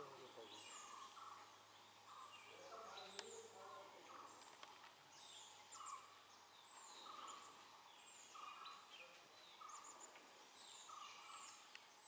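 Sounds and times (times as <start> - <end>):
faint high bird calls: 0.0 - 12.0.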